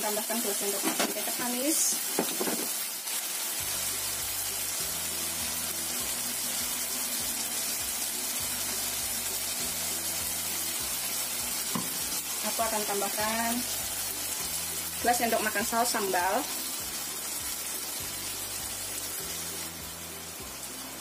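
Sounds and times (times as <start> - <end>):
meat sizzling in a frying pan: 0.0 - 21.0
background music with bass line: 3.6 - 21.0.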